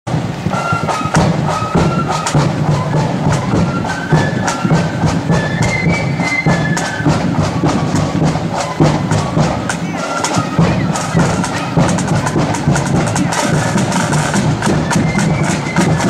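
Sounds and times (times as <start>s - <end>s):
bass drum beat: 0.1s - 16.0s
flutes playing a tune: 0.1s - 16.0s
snare drum strokes: 0.1s - 16.0s.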